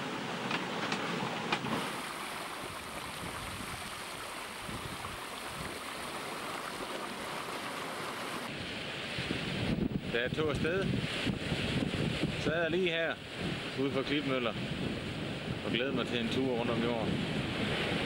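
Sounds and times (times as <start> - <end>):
seawater rushing and splashing: 0.0 - 18.0.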